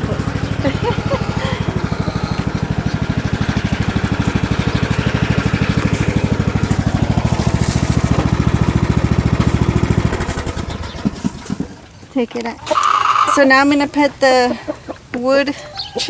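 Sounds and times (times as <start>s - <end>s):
small engine running: 0.0s - 14.1s.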